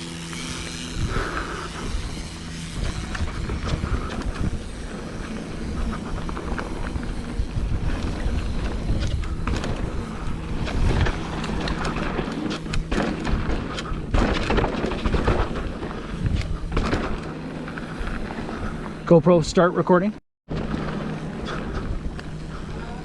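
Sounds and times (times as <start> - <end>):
bike rumbling over dirt trail: 0.0 - 19.7, 20.5 - 23.0
bike rattles and clicks: 0.0 - 23.0
wind buffeting microphone: 0.4 - 19.1.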